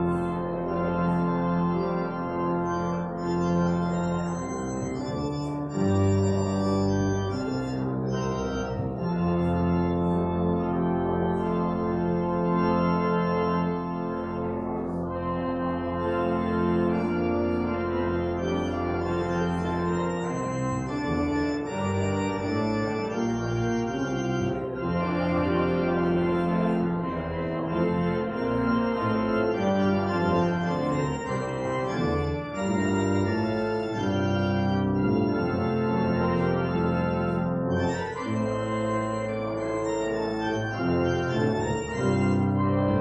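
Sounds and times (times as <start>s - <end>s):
organ playing slow chords: 0.0s - 43.0s.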